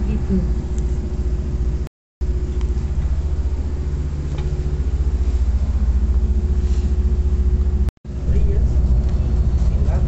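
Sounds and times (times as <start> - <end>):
faint steady hum: 0.0 - 10.0
train rumble from aboard: 0.0 - 10.0.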